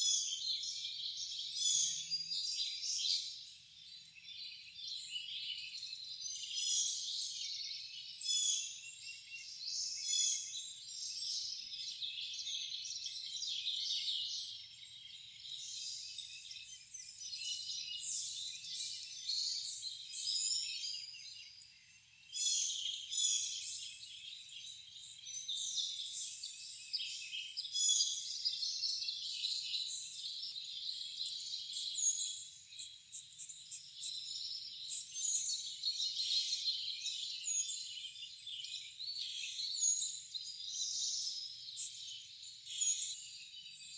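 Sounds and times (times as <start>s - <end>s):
songbirds chirping and singing: 0.0s - 43.9s.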